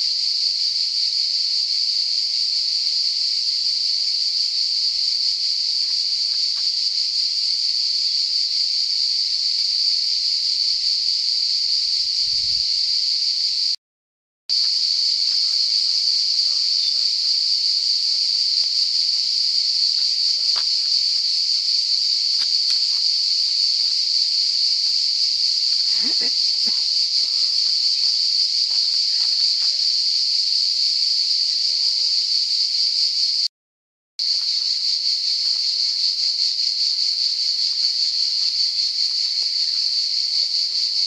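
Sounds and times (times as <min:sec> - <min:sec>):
cicadas droning: 0:00.0 - 0:13.8, 0:14.5 - 0:33.5, 0:34.2 - 0:41.0.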